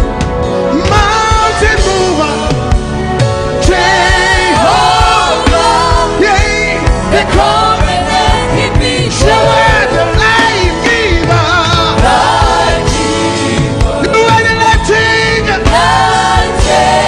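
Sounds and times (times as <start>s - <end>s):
band with steady beat: 0.0s - 17.0s
lead voice singing: 0.6s - 17.0s.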